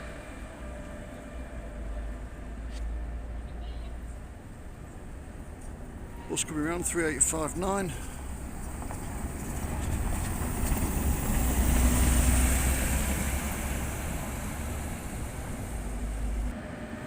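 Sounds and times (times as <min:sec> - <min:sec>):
city bus passing: 0:00.0 - 0:17.0.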